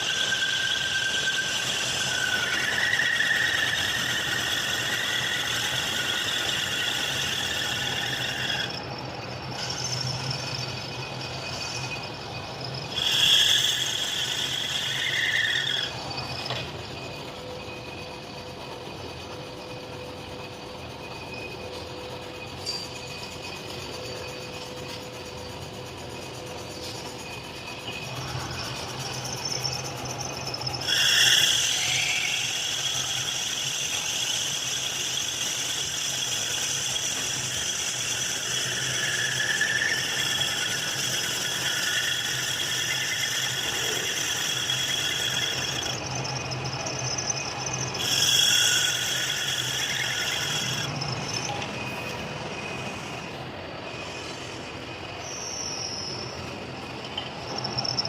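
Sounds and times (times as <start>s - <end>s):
cutting tool squealing: 0.0s - 58.0s.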